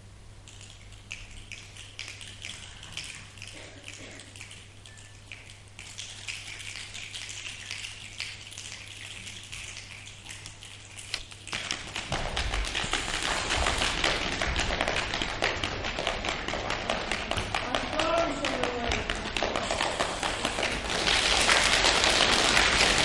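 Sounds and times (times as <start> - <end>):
rain pattering: 0.5 - 23.0.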